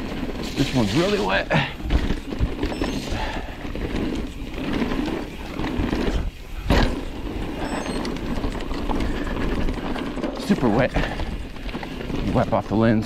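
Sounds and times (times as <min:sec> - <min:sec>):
bike rattling: 0:00.0 - 0:13.0
tyres rumbling on mud: 0:00.0 - 0:13.0.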